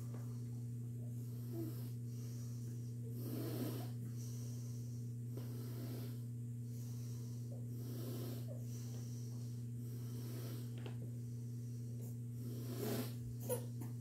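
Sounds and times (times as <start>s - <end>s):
steady low hum: 0.0s - 14.0s
person breathing slowly: 1.2s - 13.2s.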